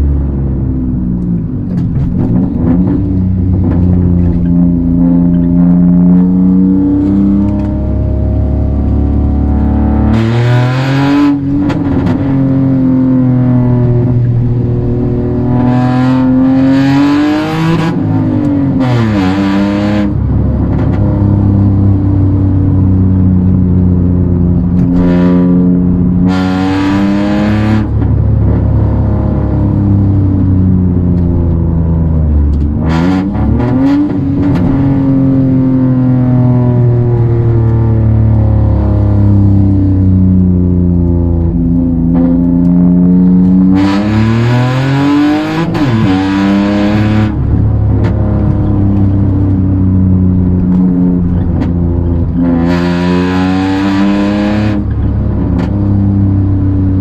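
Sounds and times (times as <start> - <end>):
car engine accelerating in cabin: 0.0 - 57.0.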